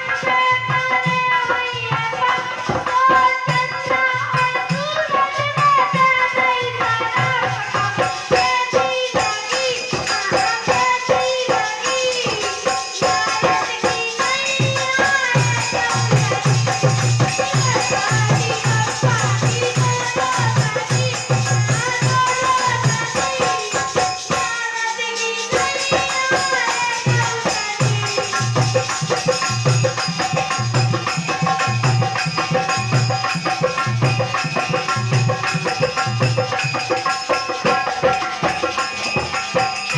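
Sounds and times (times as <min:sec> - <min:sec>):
girl singing: 0:00.0 - 0:39.9
shaken percussion: 0:00.0 - 0:39.9
steady drum beat: 0:00.0 - 0:39.9.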